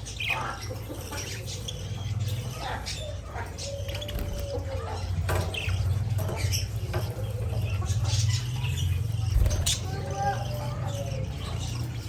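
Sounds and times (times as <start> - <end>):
soft bird chirps: 0.0 - 12.0.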